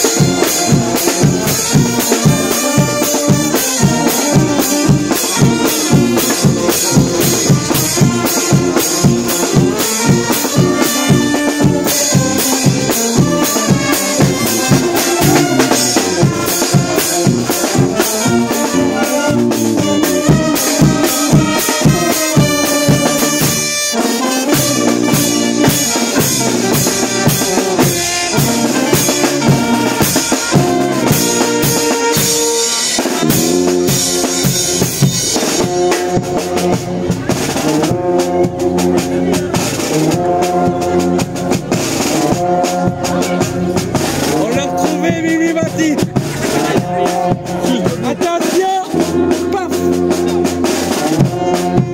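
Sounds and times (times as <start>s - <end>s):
brass band playing: 0.0s - 51.9s.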